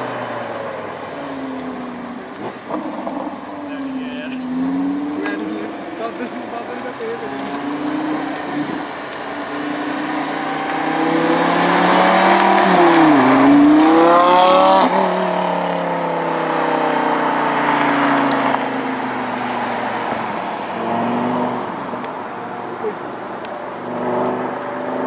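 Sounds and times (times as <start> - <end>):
car engine revving on drive-by: 0.0 - 25.0.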